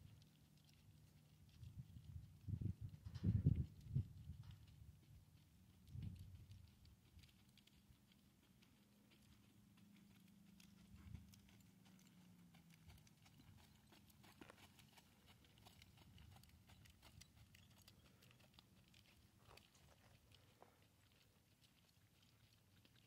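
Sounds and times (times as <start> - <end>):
faint low hum: 0.0 - 23.0
hoofbeats on soft dirt: 0.0 - 23.0.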